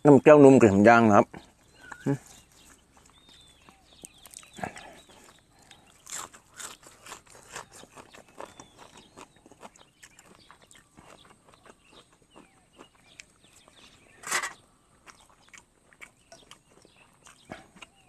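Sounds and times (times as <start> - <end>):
person chewing food: 1.5 - 18.0.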